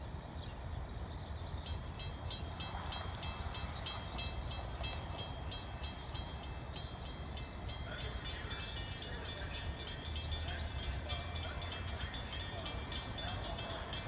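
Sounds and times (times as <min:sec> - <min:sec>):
crossing bell ringing: 0:01.6 - 0:14.0.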